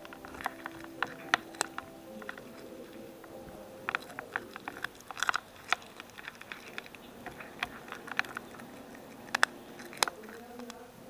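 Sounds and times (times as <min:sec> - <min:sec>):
cat chewing clicks and smacks: 0:00.0 - 0:10.8.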